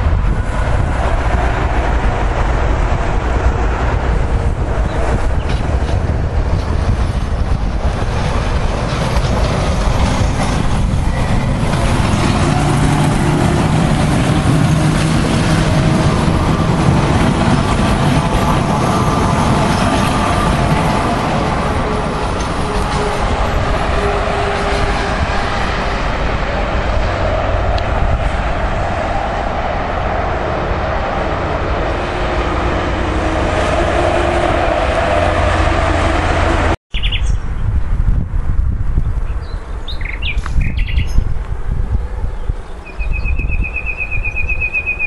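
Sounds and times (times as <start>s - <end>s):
passenger train running past: 0.0s - 38.8s.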